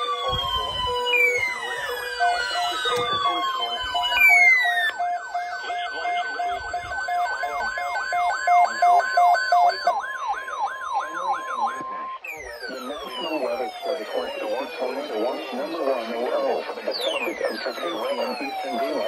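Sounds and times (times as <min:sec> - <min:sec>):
pulsing beep: 0:00.0 - 0:09.9, 0:11.0 - 0:19.0
falling siren-like whoop: 0:00.0 - 0:19.0
steady warning tone: 0:00.0 - 0:19.0.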